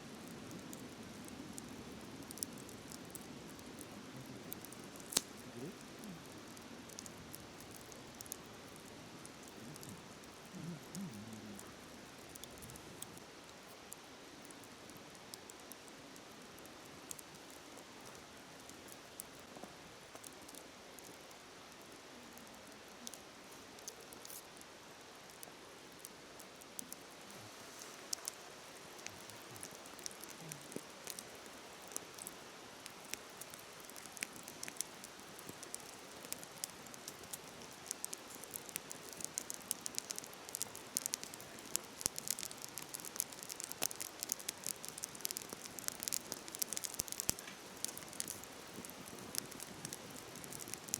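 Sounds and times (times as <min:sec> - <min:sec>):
wood fire crackling and popping: 0:00.1 - 0:50.9.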